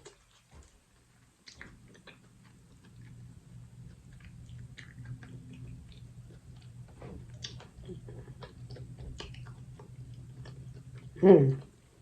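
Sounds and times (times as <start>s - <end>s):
close chewing wet clicks: 0.0s - 12.0s
low steady hum: 0.0s - 12.0s.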